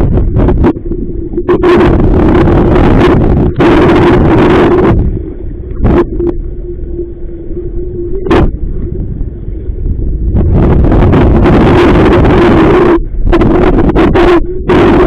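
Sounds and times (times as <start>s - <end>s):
low hum: 0.0s - 15.0s
wind buffeting microphone: 0.0s - 15.0s.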